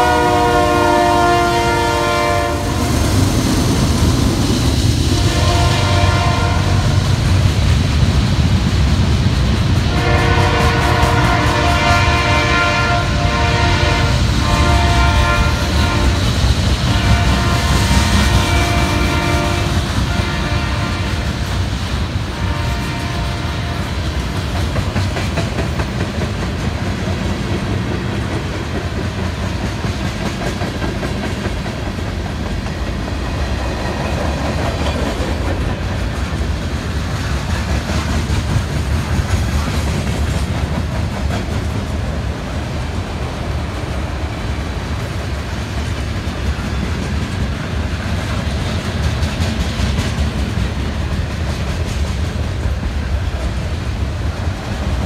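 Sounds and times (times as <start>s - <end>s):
freight train wheels rumbling: 0.0s - 55.0s
clickety-clack over rail joints: 1.2s - 55.0s.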